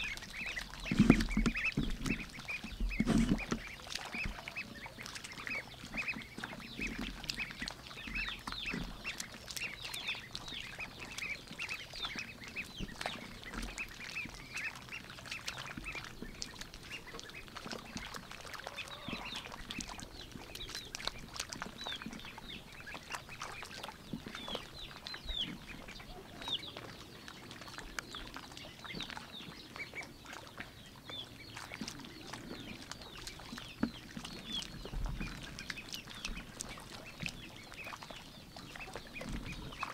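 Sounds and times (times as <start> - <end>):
bills dabbling in water: 0.0 - 39.9
ducklings peeping: 0.0 - 39.9.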